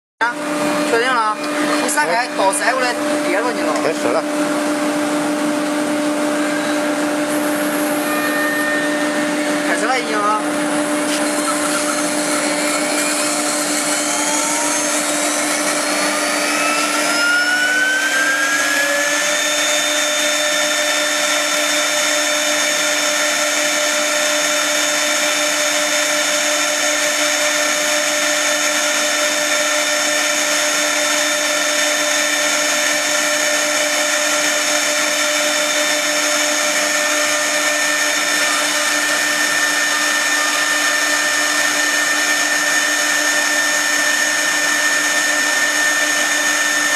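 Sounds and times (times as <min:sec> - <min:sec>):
router spindle whine: 0:00.2 - 0:46.9
bit cutting through board: 0:07.5 - 0:46.9.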